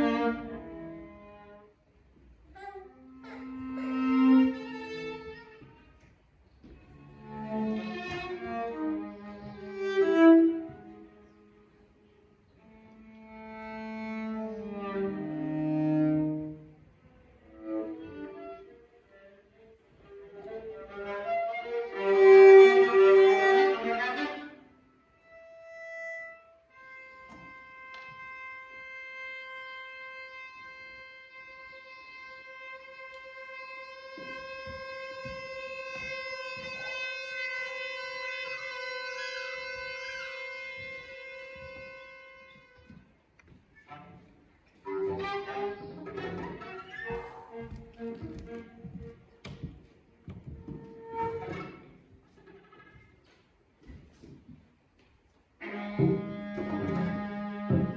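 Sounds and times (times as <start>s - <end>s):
viola and cello playing: 0.0s - 54.4s, 55.5s - 57.9s.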